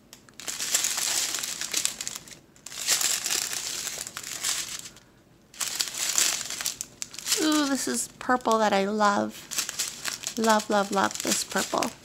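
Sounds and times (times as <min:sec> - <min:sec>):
plastic packets crinkling: 0:00.3 - 0:12.0.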